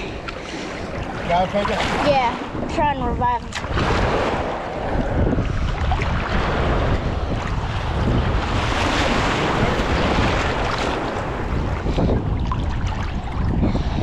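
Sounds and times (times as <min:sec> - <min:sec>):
water sloshing against boat: 0:00.0 - 0:14.0
wind rumbling on microphone: 0:00.0 - 0:14.0.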